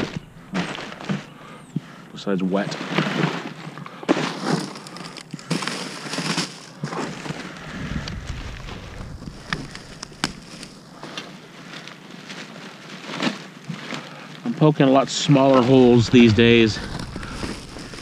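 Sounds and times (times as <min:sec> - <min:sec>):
plastic bags rustling and crinkling: 0:00.0 - 0:01.4, 0:02.6 - 0:18.0.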